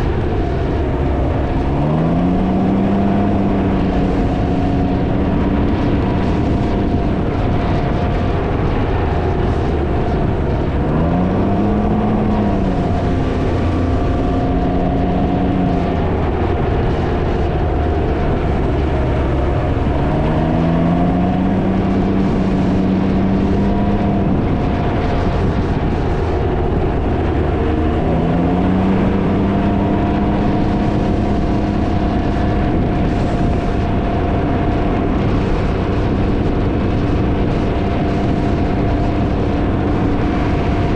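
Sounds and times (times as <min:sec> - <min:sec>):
engine running under way: 0:00.0 - 0:40.9
wind noise on microphone: 0:00.0 - 0:40.9.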